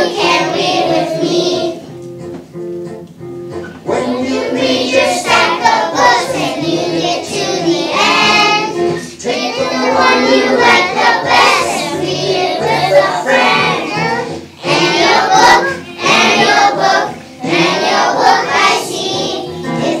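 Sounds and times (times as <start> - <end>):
children singing: 0.0 - 1.9, 3.8 - 20.0.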